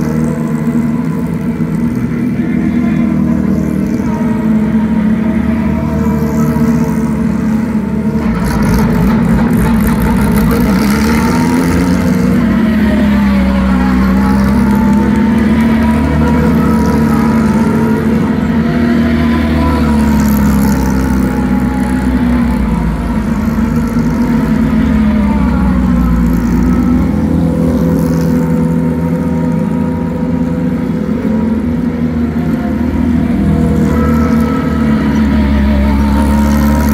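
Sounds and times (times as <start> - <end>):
race car engines passing: 0.0 - 36.9.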